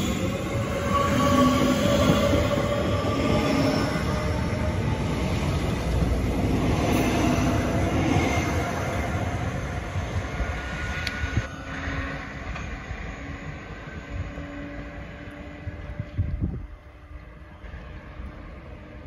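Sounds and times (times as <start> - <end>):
train rumble and wheel noise: 0.0 - 19.0.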